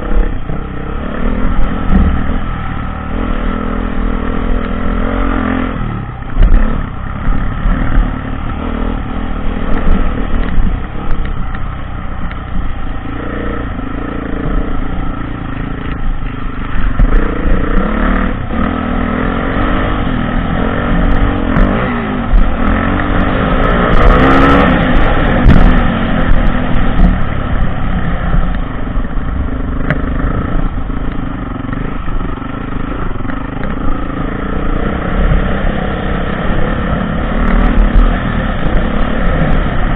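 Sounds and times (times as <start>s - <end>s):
dirt bike engine revving: 0.0s - 11.5s, 12.1s - 39.9s.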